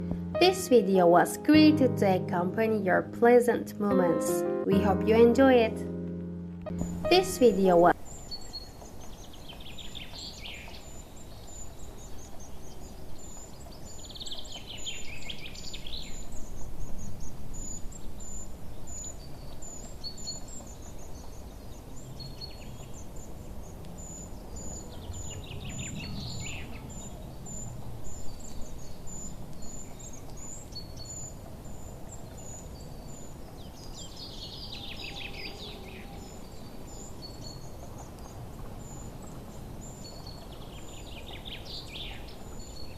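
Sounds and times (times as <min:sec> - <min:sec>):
songbird trilling song: 0:06.7 - 0:42.9.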